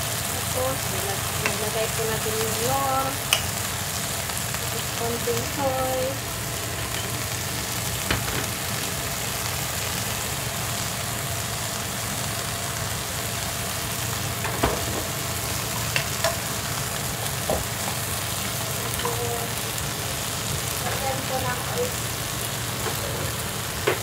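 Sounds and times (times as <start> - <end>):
vegetables sizzling in pan: 0.0 - 24.0.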